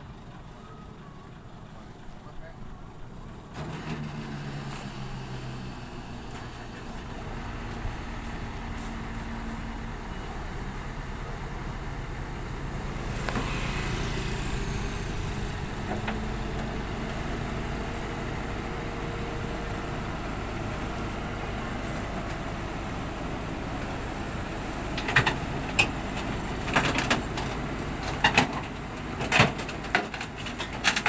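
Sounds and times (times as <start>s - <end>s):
diesel machinery engine running: 0.0s - 31.0s.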